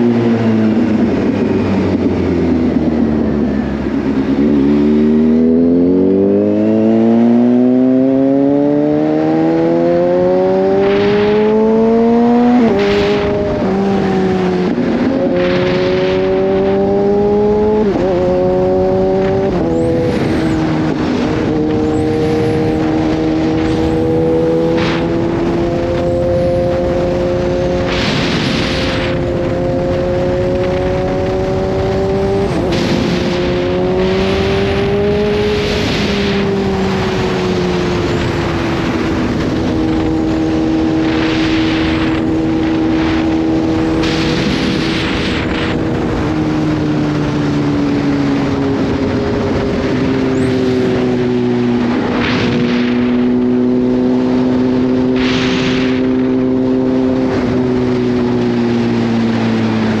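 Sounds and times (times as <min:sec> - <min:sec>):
motorcycle engine cruising: 0:00.0 - 1:00.0.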